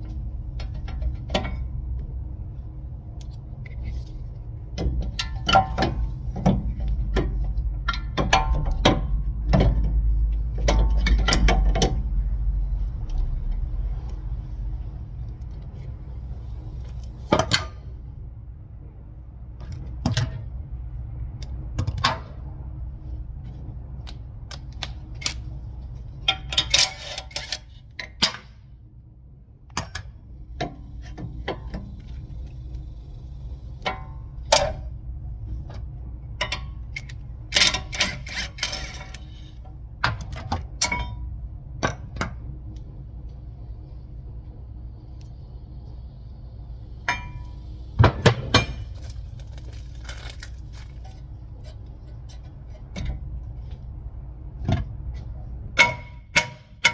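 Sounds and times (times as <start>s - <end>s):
low rumble: 0.0s - 26.9s, 28.6s - 38.0s, 38.6s - 56.3s.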